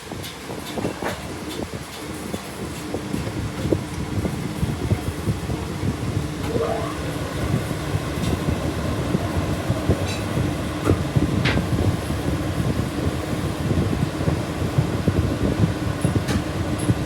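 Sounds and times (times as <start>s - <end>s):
mechanical rumble with rattles: 0.0s - 17.0s.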